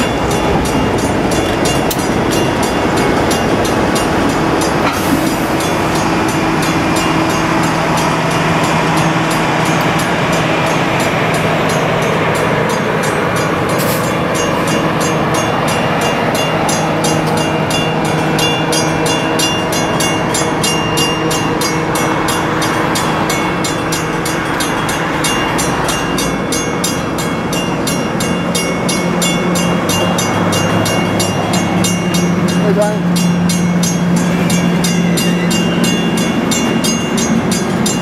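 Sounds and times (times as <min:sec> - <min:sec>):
fast regular rail clicking: 0:00.0 - 0:38.0
train wheels on rail: 0:00.0 - 0:38.0.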